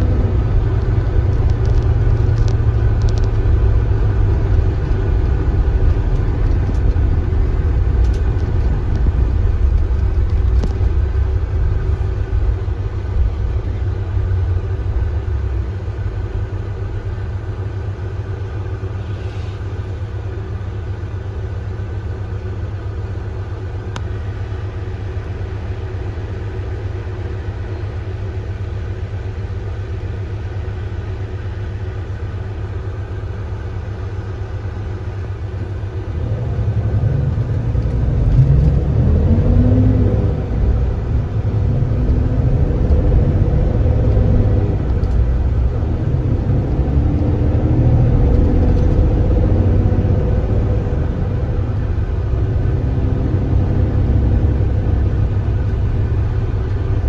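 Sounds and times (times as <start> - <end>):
bus engine accelerating: 0.0 - 57.0.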